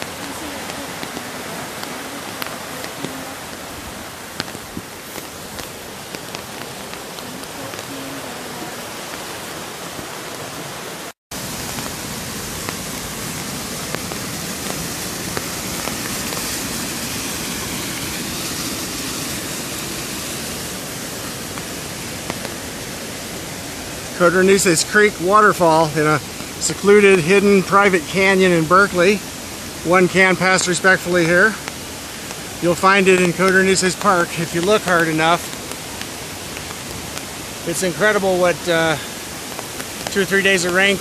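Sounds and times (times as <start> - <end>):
creek and waterfall rushing: 0.0 - 41.0.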